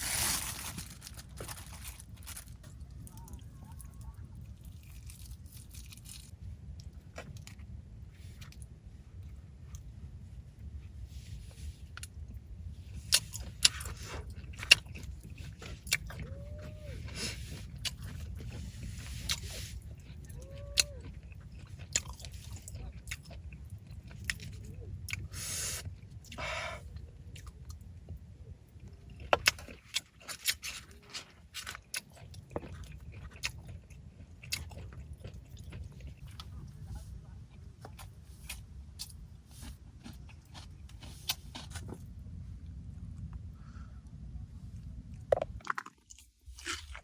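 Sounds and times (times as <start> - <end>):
rustling and crunching handling noises: 0.0 - 42.3
low steady rumble: 0.0 - 47.0.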